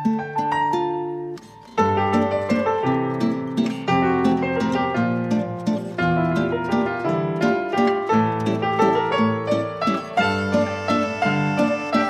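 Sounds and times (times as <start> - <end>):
plucked harp-like melody: 0.0 - 12.0.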